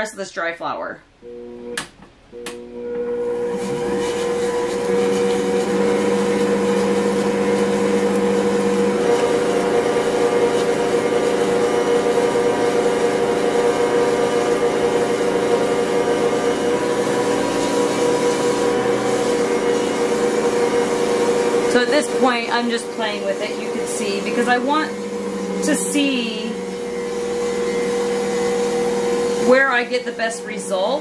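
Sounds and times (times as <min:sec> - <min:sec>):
stand mixer motor whining: 0:01.3 - 0:31.0.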